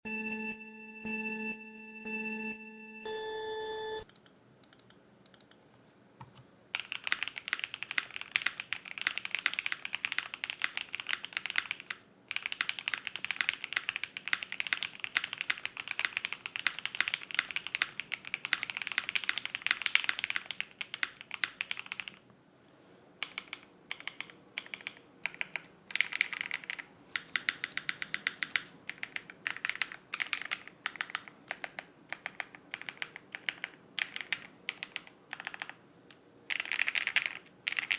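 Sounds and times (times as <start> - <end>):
mechanical keyboard typing: 4.0 - 5.6, 6.7 - 22.2, 23.2 - 37.9.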